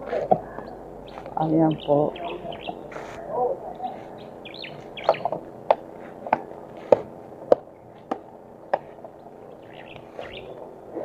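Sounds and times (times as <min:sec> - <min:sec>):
footsteps on dirt path: 0:00.0 - 0:10.7
birds chirping: 0:00.0 - 0:11.0.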